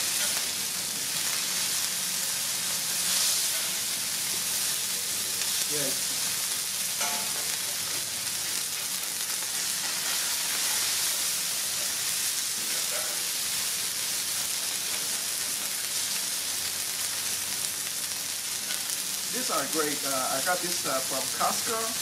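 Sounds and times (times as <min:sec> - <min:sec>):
burger patties sizzling on griddle: 0:00.0 - 0:22.0.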